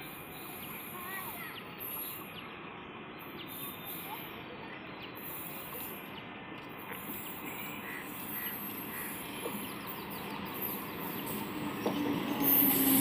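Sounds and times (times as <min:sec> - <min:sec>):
train approaching: 0:00.0 - 0:13.0.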